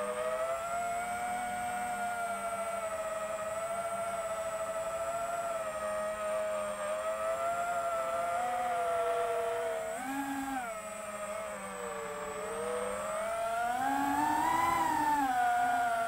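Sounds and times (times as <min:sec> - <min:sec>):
drone motors and propellers whining: 0:00.0 - 0:16.0.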